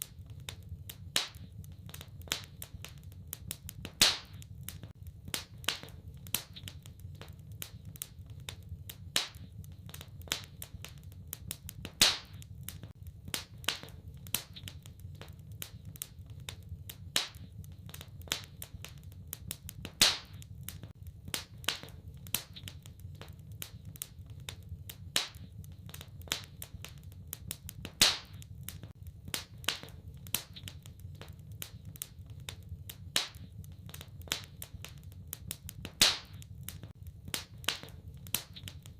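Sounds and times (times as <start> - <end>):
fire snaps and pops: 0.0 - 38.9
low rumble of fire: 0.0 - 38.9.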